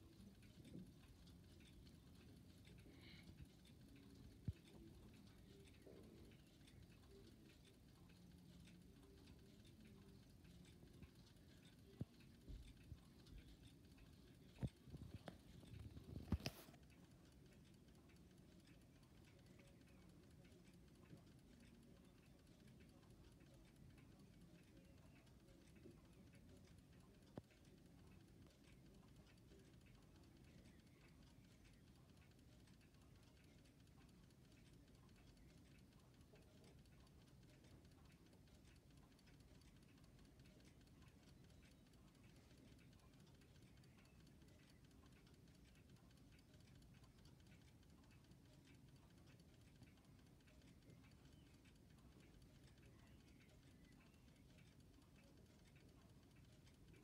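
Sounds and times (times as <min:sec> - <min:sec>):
faint ticking: 0:00.0 - 0:57.0.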